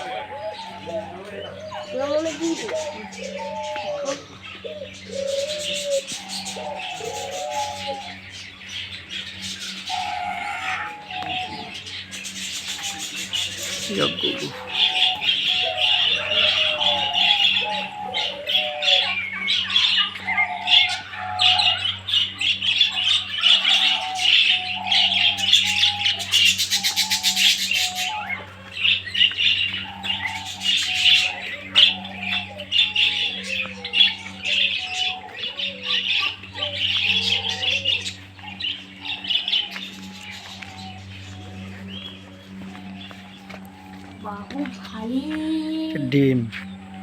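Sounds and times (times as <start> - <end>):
bird squawks: 0.0 - 45.1
chorus of chirping birds: 0.0 - 47.0
steady low hum: 0.0 - 47.0.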